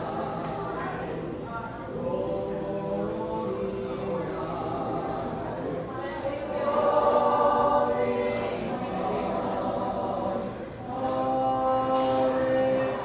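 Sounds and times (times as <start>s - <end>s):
carolers singing in harmony: 0.0s - 13.0s.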